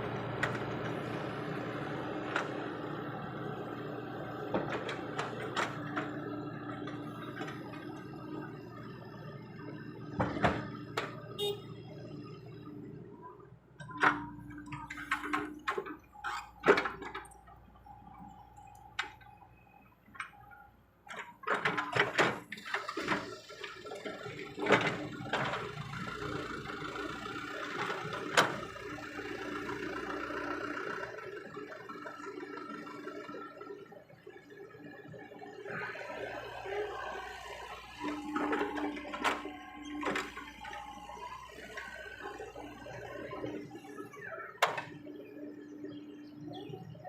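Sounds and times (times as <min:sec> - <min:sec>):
excavator diesel engine humming: 0:00.0 - 0:47.0.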